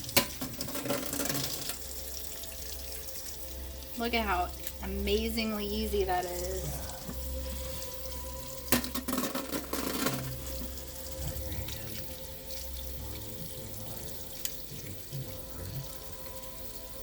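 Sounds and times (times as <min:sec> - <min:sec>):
watery hiss: 0:01.2 - 0:17.0.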